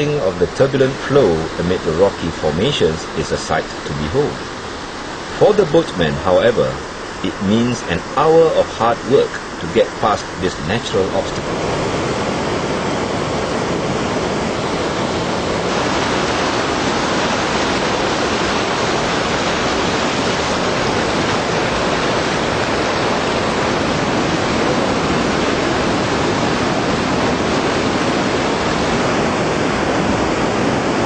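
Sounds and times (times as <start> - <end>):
river rapids roaring: 0.0 - 31.0.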